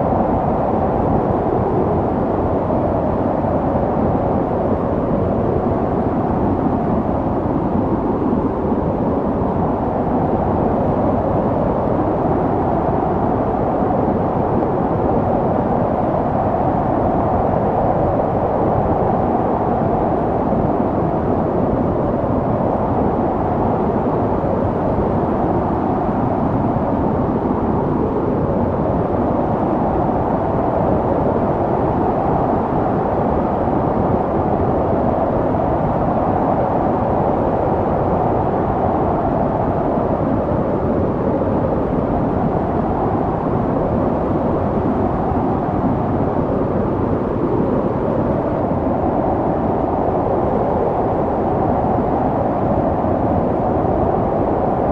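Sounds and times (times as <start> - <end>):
snowstorm wind: 0.0 - 54.9.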